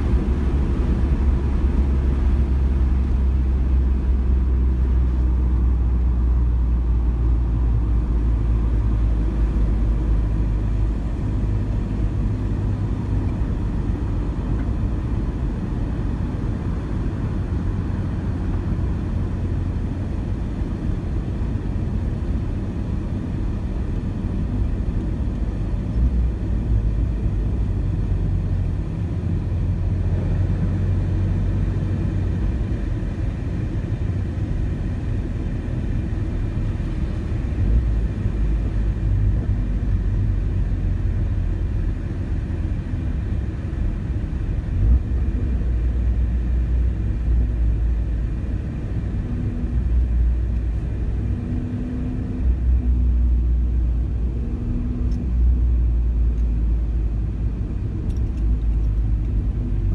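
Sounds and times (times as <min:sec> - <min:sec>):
car engine droning: 0:00.0 - 0:59.9
road noise inside car: 0:00.0 - 0:59.9.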